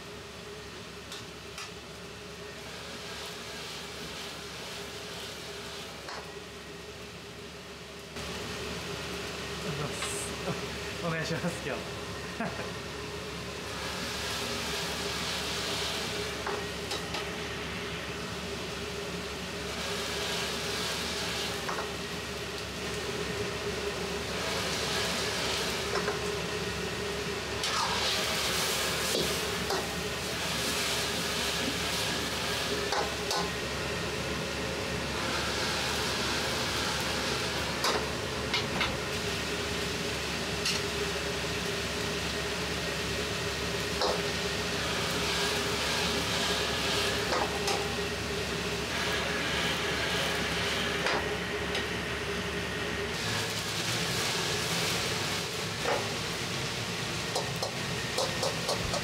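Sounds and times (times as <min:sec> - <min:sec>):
noodles sizzling in oil: 0:00.0 - 0:59.0.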